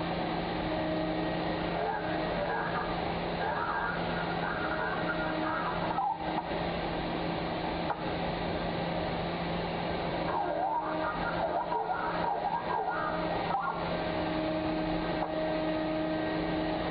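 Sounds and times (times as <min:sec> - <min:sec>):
mining machinery rumble: 0:00.0 - 0:16.9.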